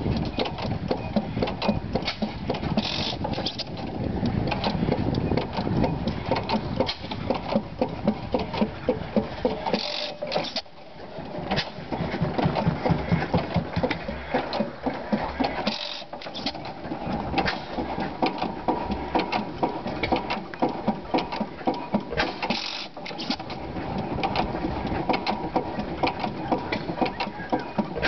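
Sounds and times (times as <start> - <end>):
stationary engine clattering: 0.0 - 28.0.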